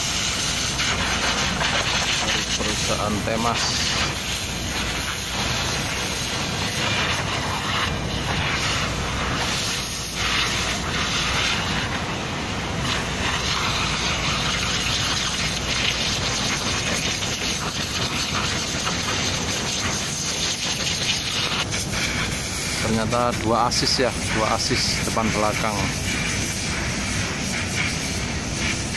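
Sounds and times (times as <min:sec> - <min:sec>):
steady rushing noise: 0:00.0 - 0:28.9.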